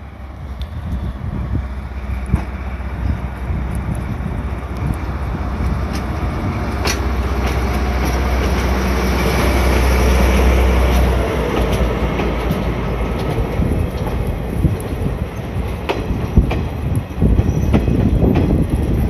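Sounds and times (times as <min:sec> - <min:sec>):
train wheels clicking over rail joints: 0:02.0 - 0:19.0.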